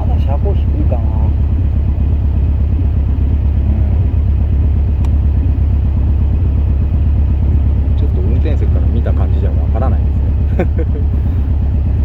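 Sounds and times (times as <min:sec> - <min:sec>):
sports car engine rumble: 0:00.0 - 0:12.0.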